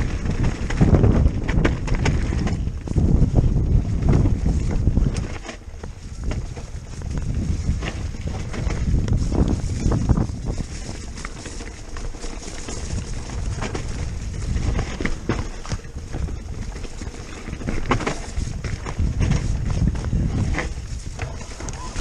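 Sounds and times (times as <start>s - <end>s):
bike rattling over bumps: 0.0s - 22.0s.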